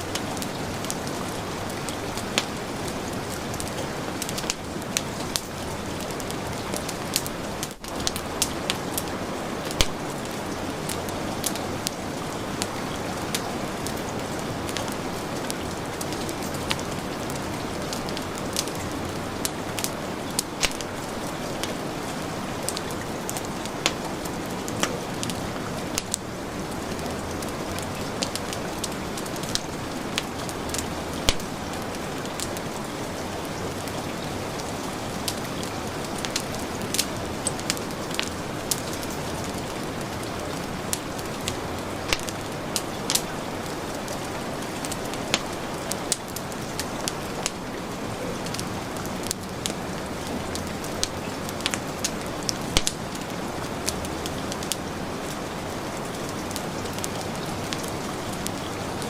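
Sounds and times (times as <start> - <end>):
heavy rain falling: 0.0 - 59.0
wood fire crackling: 0.0 - 59.0.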